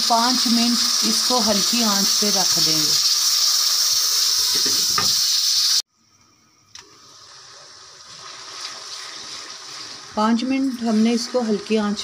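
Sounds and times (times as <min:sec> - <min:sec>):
masala sizzling in ghee: 0:00.0 - 0:05.8, 0:07.0 - 0:12.0.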